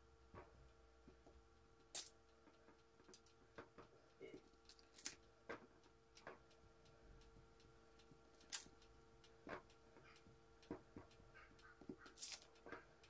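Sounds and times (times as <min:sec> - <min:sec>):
faint steady hum: 0:00.0 - 0:13.0
faint light clicks and ticks: 0:00.3 - 0:13.0.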